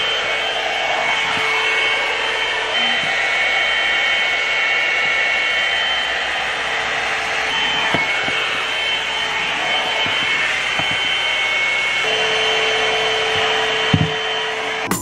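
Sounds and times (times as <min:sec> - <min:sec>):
hot air brush blowing: 0:00.0 - 0:15.0.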